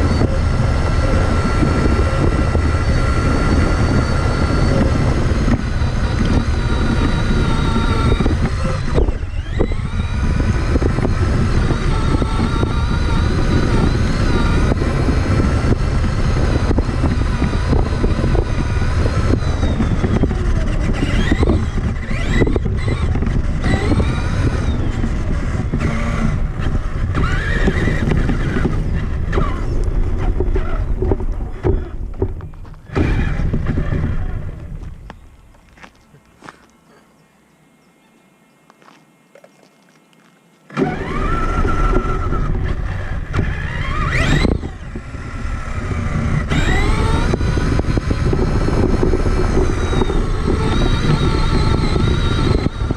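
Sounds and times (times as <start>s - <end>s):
electric motor and gears whining: 0.0s - 52.9s
heavy continuous low rumble: 0.0s - 52.9s.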